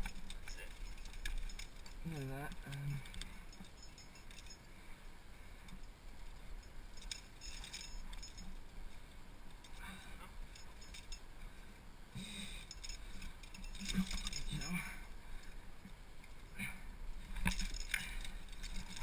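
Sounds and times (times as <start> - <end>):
climbing gear clinking on rock: 0.0 - 19.0.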